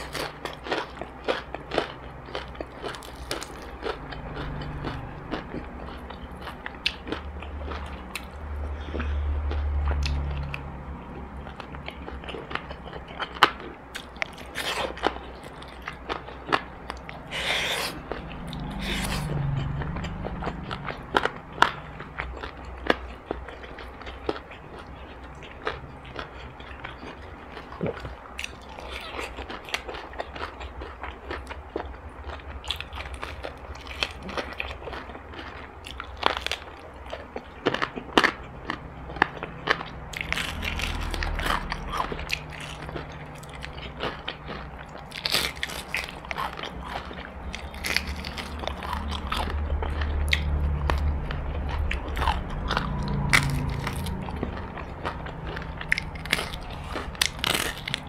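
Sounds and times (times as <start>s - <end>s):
crunching fried chicken: 0.0s - 58.0s.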